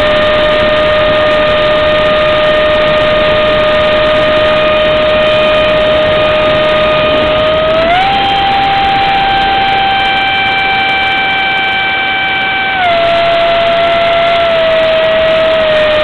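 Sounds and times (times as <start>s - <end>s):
electric motor whine: 0.0s - 16.0s
rush of air: 0.0s - 16.0s.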